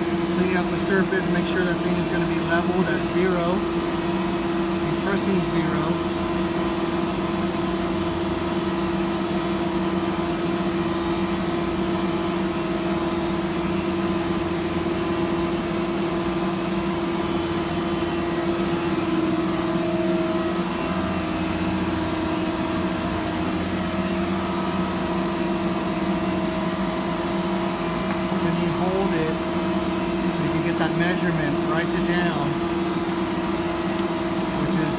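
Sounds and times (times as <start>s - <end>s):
cnc router machine hum: 0.0s - 34.9s.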